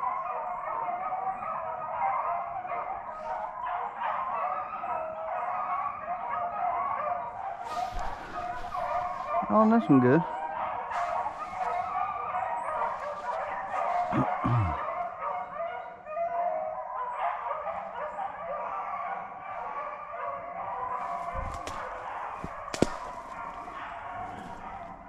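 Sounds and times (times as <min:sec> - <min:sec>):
dogs baying and howling: 0:00.0 - 0:25.0.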